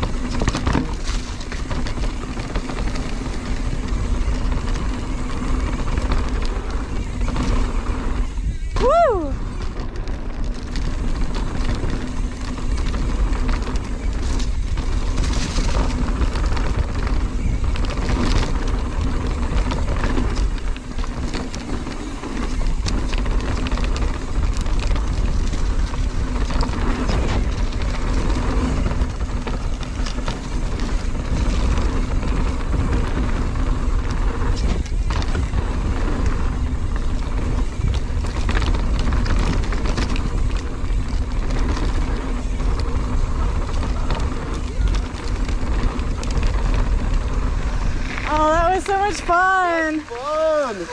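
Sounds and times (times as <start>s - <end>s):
bike rattling over bumps: 0.0s - 50.9s
tyres rolling over dirt and leaves: 0.0s - 50.9s
wind buffeting microphone: 0.0s - 50.9s.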